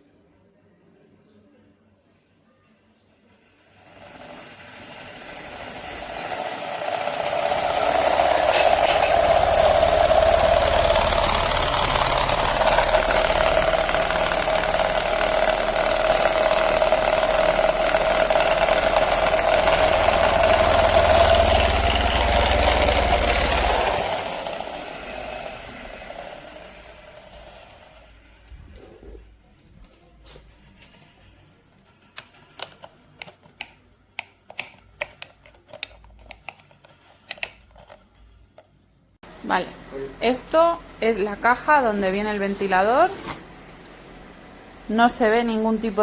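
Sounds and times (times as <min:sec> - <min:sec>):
pedestal fan running: 0:03.6 - 0:38.6, 0:39.2 - 0:46.0.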